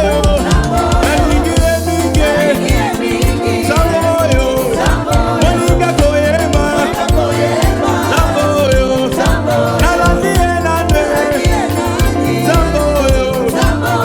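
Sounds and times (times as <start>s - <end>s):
gospel band playing: 0.0s - 14.0s
person singing: 0.0s - 14.0s.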